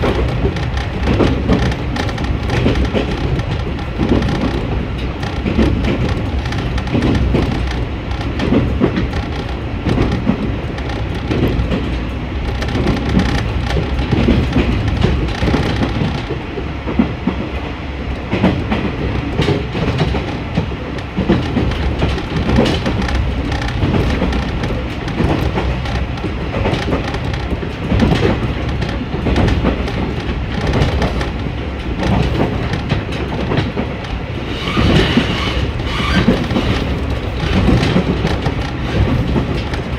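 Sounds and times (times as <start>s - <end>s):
train rumbling in motion: 0.0s - 39.9s
wheels clicking over rail joints: 0.0s - 39.9s.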